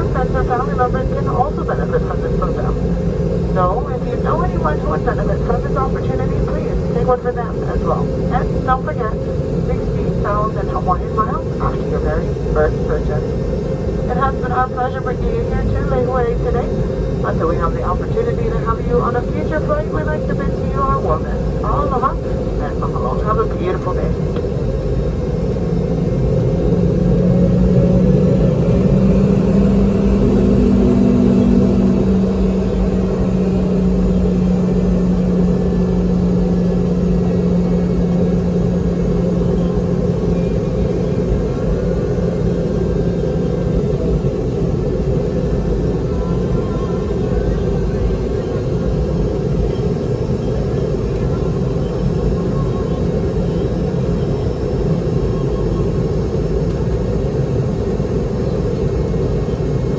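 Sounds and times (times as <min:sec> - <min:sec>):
jet cabin low rumble: 0:00.0 - 0:59.9
jet engine tone: 0:00.0 - 0:59.9.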